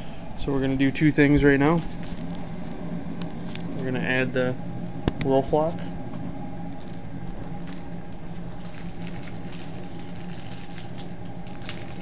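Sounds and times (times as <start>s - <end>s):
boiling kettle hum and rush: 0.0s - 12.0s
crickets chirping: 0.0s - 12.0s.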